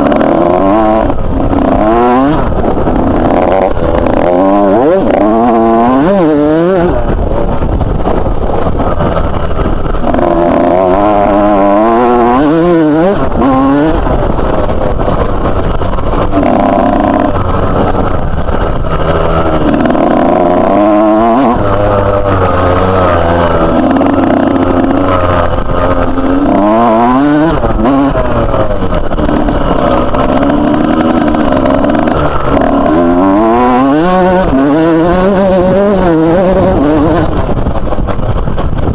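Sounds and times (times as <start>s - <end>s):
two-stroke motorbike engine revving: 0.0s - 38.9s.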